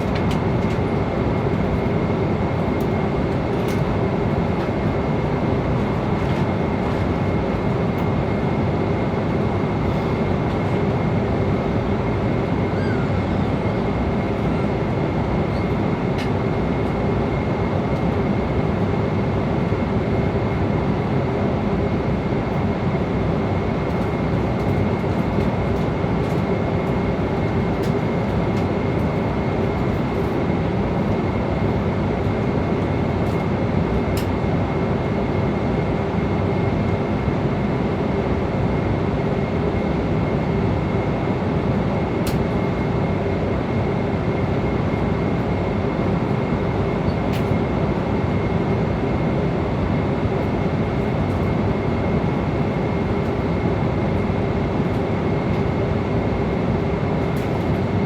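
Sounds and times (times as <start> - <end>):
engine and airflow rush: 0.0 - 58.0.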